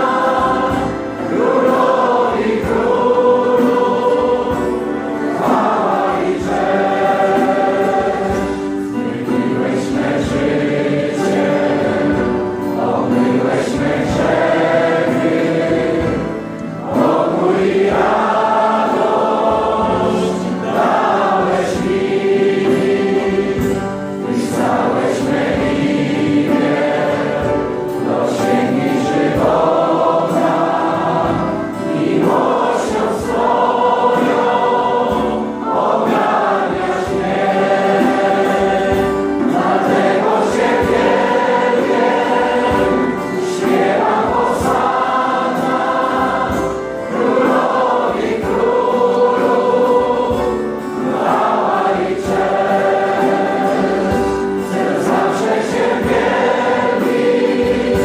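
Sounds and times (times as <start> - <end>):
congregation singing: 0.0 - 58.0.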